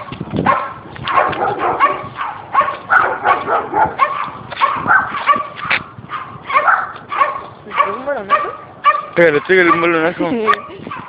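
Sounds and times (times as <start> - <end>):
dog barking: 0.4 - 11.0.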